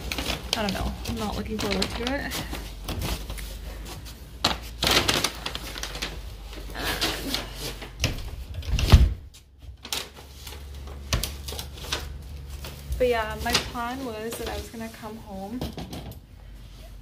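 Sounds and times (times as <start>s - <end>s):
clothing and phone rustling: 0.0s - 15.6s
low background hum: 0.0s - 17.0s.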